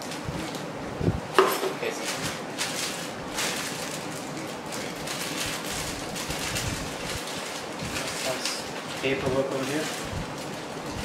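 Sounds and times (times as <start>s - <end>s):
plastic bag crinkling: 1.4s - 11.0s.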